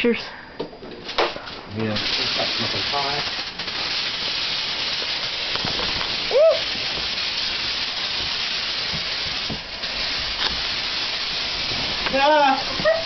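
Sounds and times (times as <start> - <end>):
fog machine hissing: 0.0 - 13.0.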